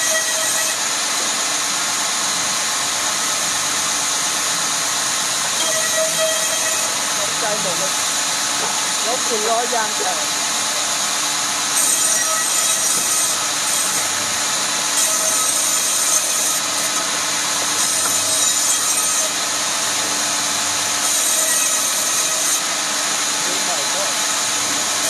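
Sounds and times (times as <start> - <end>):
saw blade cutting wood: 0.0 - 2.2, 3.1 - 9.4, 11.6 - 25.0
power saw motor hum: 0.0 - 25.0.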